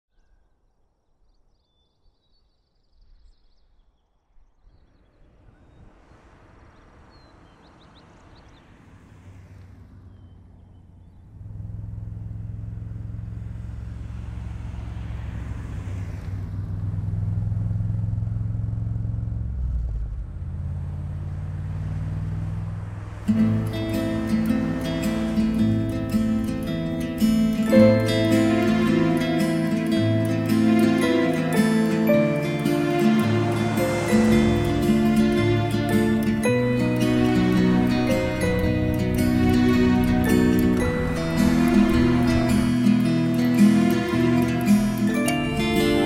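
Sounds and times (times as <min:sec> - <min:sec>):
car engine running: 0:08.1 - 0:46.0.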